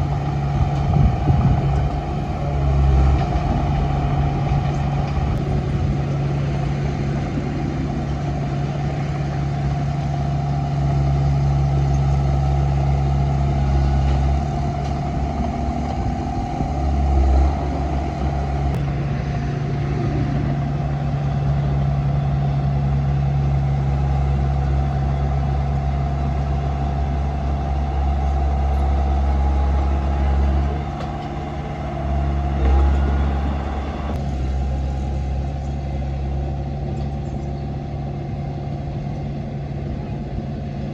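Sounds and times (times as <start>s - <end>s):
bulldozer diesel engine drone: 0.0s - 40.9s.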